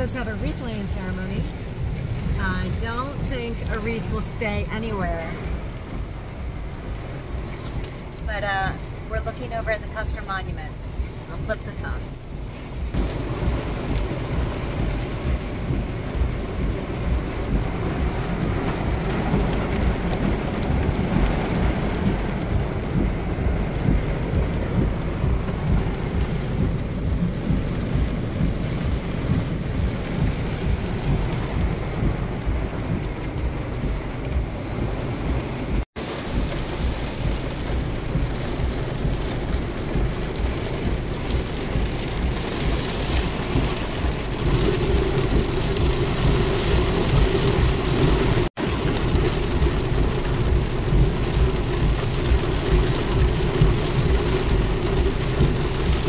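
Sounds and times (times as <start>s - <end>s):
constant low rumble: 0.0s - 56.0s
heavy rain on car roof: 0.0s - 56.0s.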